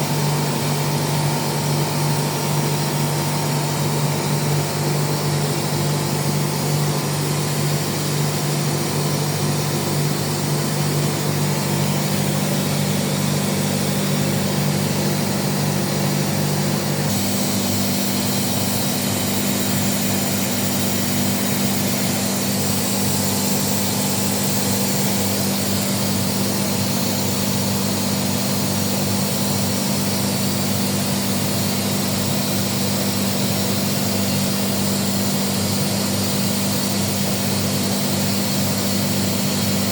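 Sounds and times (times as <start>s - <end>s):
air compressor humming: 0.0s - 39.9s.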